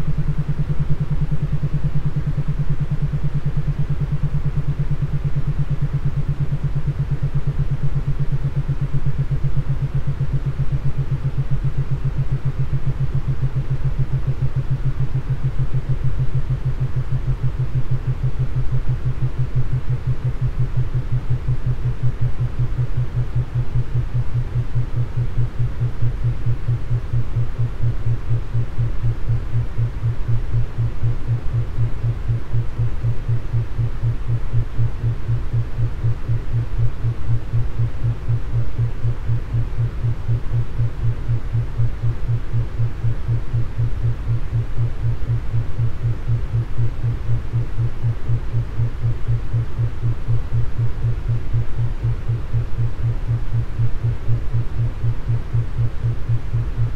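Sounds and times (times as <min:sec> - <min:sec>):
pulsing low electronic hum: 0:00.0 - 0:56.9.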